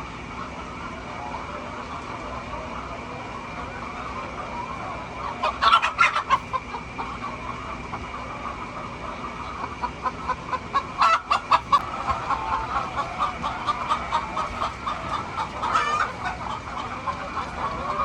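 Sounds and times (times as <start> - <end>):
hens clucking: 0.0 - 18.0
loud hen calls: 0.1 - 18.0.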